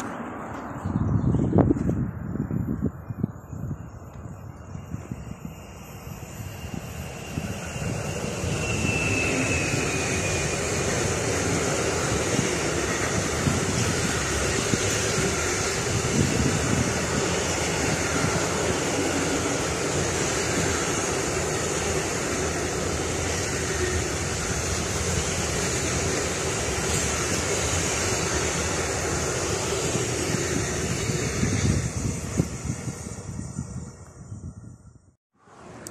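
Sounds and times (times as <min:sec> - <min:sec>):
freight train wheels on track: 0:00.0 - 0:34.3.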